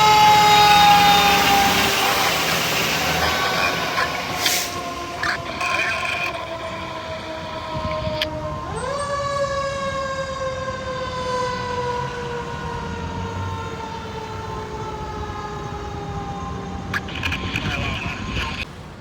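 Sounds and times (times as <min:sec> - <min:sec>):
fire truck siren wailing: 0:00.0 - 0:18.8
truck engine rumble: 0:00.0 - 0:19.0.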